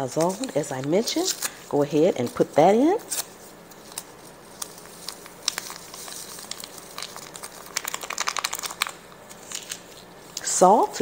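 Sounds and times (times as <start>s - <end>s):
packet crinkling: 0.2s - 11.0s.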